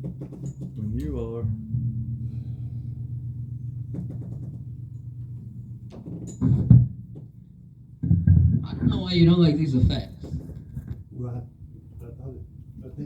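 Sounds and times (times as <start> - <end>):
heavy low thumps: 0.0 - 11.9
low held musical tone: 0.0 - 13.0.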